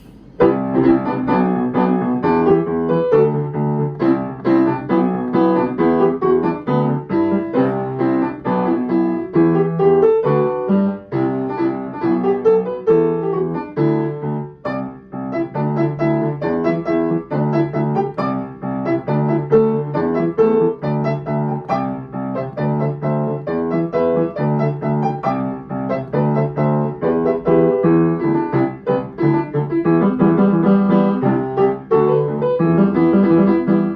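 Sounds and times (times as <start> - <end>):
lively piano tune: 0.0 - 33.9.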